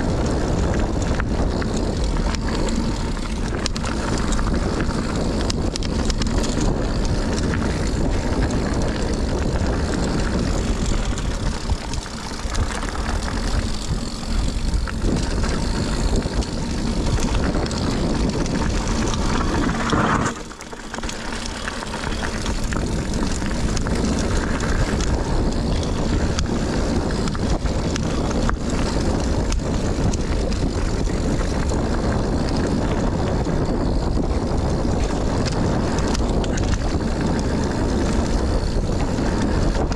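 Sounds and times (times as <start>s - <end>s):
bike rattling: 0.0s - 39.9s
tyres rolling over dirt: 0.0s - 39.9s
wind on microphone: 0.0s - 39.9s.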